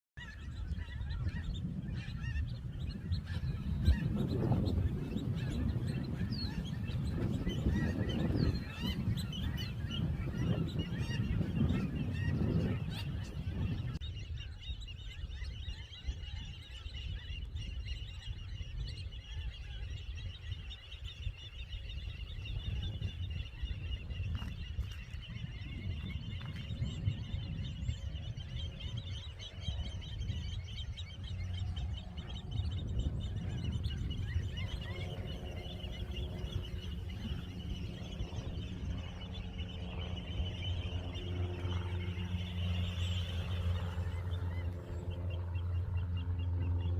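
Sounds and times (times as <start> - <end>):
chorus of birds calling: 0.2 - 46.9.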